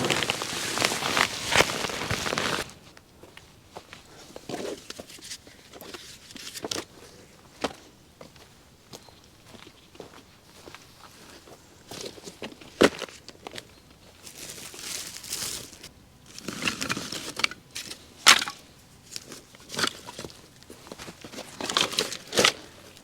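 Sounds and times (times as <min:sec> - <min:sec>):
rustling and crinkling: 0:00.0 - 0:07.8, 0:10.0 - 0:18.1, 0:18.9 - 0:23.0.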